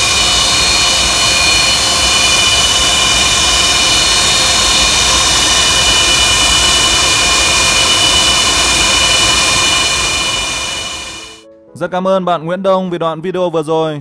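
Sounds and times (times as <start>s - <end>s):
jet engines roaring with high whine: 0.0s - 11.4s.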